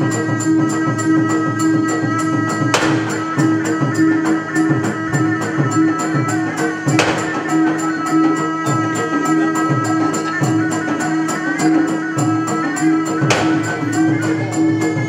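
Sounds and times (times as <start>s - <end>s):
percussive ensemble music: 0.0s - 15.0s.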